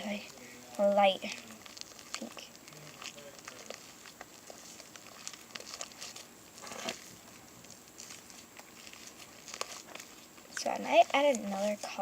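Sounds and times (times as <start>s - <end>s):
slime clicking and crackling: 0.0s - 12.0s
slime squish: 0.0s - 12.0s.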